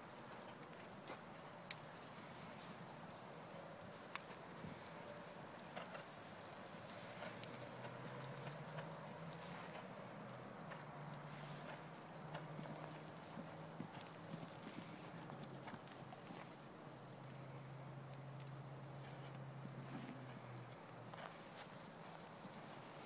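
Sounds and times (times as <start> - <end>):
muffled hoofbeats on dirt: 0.0 - 23.0.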